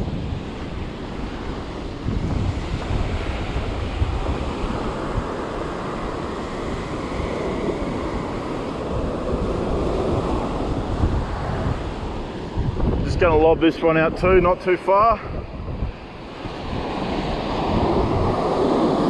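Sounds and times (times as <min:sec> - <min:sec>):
waves breaking on a beach: 0:00.0 - 0:19.0
wind buffeting the microphone: 0:00.0 - 0:19.0.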